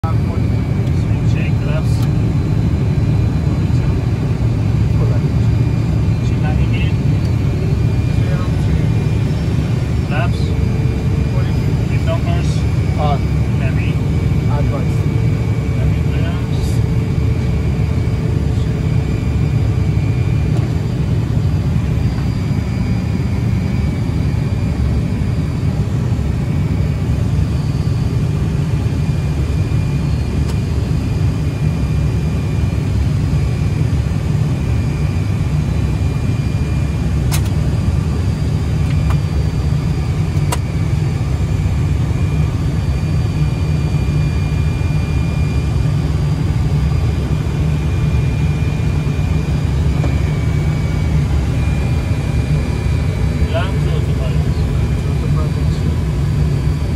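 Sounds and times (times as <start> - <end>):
jet airliner cockpit rumble: 0.0 - 56.9.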